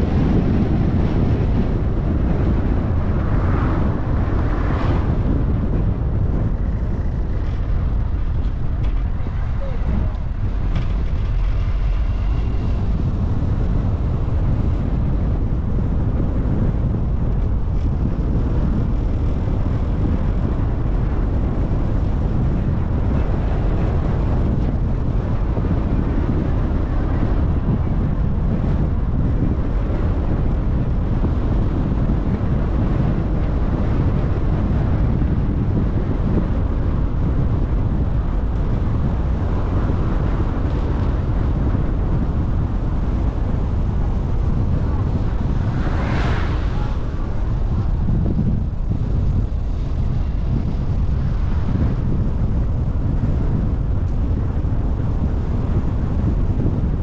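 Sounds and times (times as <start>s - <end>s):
moving vehicle rumble: 0.0s - 57.0s.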